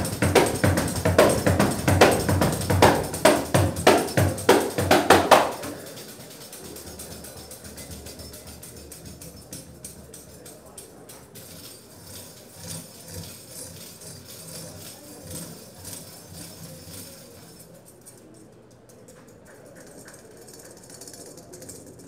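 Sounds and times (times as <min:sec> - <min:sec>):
tambourine jingles rattling softly: 0:00.0 - 0:21.8.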